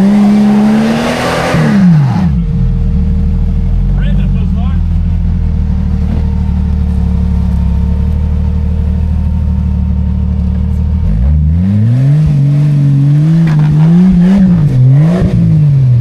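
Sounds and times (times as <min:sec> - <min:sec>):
car engine running and revving: 0:00.0 - 0:16.0.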